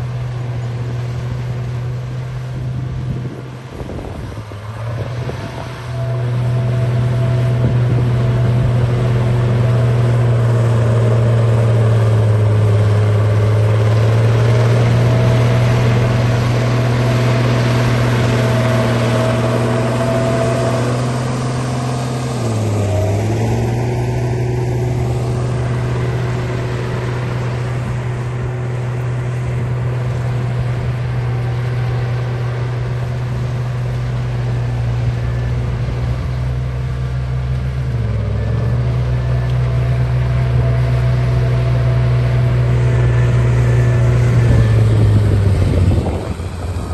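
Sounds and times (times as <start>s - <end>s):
bulldozer engine running: 0.0s - 46.9s.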